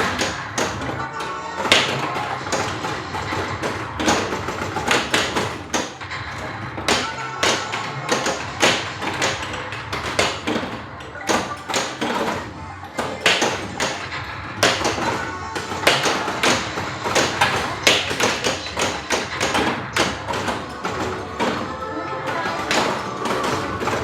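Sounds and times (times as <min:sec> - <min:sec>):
pinball flippers and ball clacking: 0:00.0 - 0:24.0
pinball game music: 0:00.0 - 0:24.0.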